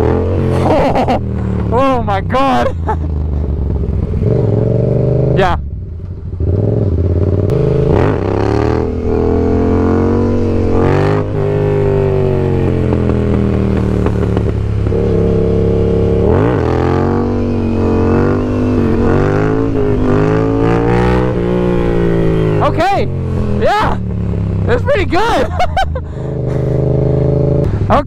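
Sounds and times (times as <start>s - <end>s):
motorcycle engine revving hard: 0.0s - 5.6s, 6.3s - 28.0s.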